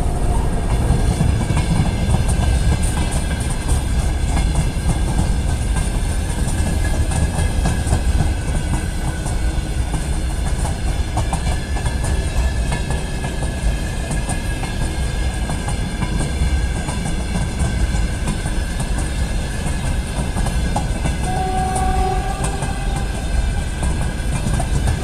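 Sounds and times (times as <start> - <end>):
freight train heavy rumble: 0.0 - 25.0
wheels clattering over rail joints: 0.0 - 25.0.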